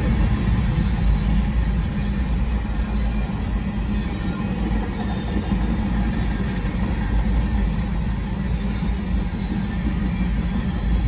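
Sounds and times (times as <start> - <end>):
freight train wheels rumbling: 0.0 - 11.0
high wheel squeal: 0.9 - 11.0.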